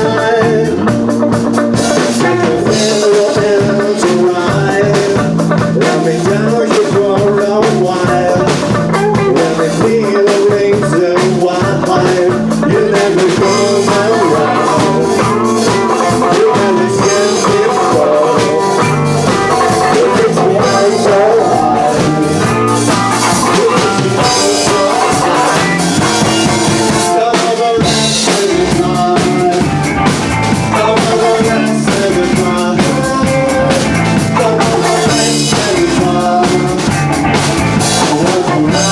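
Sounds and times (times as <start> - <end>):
live band playing: 0.0 - 38.9
man singing: 0.0 - 38.9.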